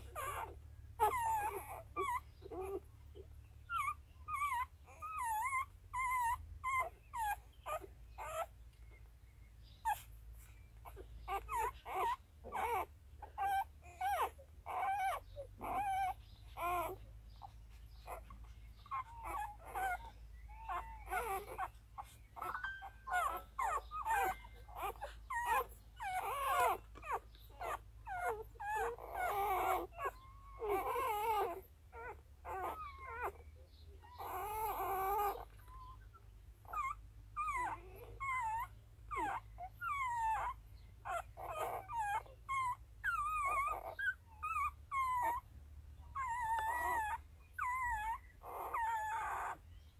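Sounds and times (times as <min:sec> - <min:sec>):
puppies squeaking and whimpering: 0:00.0 - 0:49.9.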